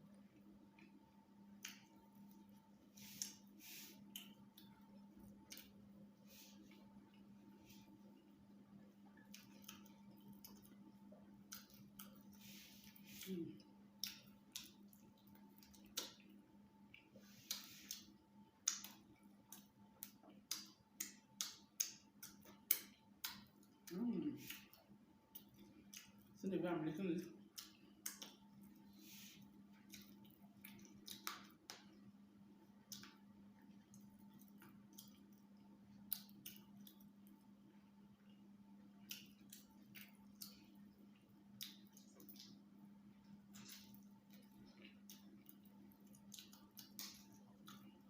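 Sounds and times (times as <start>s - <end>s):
steady low hum: 0.0s - 48.0s
wet mouth smacks chewing: 0.8s - 7.9s, 9.0s - 26.4s, 27.4s - 32.1s, 32.8s - 37.4s, 38.9s - 48.0s.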